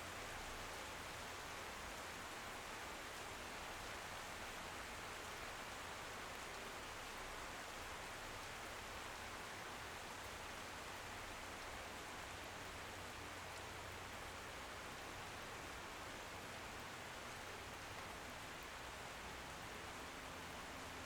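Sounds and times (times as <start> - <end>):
rain on a window: 0.0 - 21.0.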